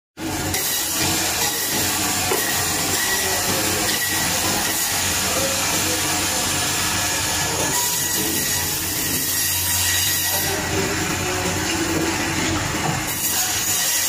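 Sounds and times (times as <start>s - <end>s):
band saw cutting bone: 0.2s - 14.0s.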